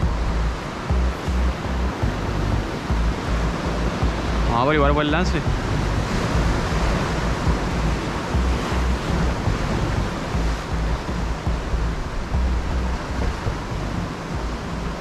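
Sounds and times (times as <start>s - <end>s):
surf washing over rocks: 0.0s - 15.0s
wind buffeting microphone: 0.0s - 15.0s.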